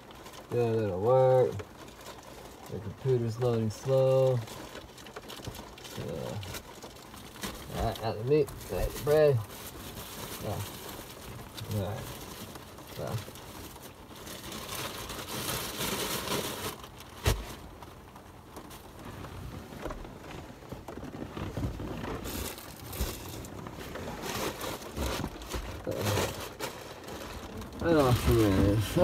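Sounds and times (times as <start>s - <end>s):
plastic bags rustling and crinkling: 0.0s - 29.0s.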